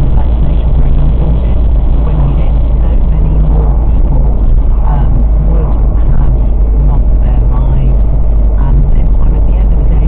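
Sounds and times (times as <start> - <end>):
car interior engine and tyre rumble: 0.0 - 10.0.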